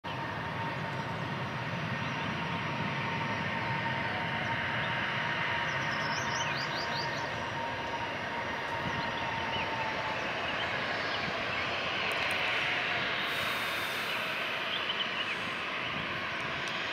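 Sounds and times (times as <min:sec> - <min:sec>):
thin jet engine whine: 0:00.0 - 0:16.9
distant jet engines rumbling: 0:00.1 - 0:16.9.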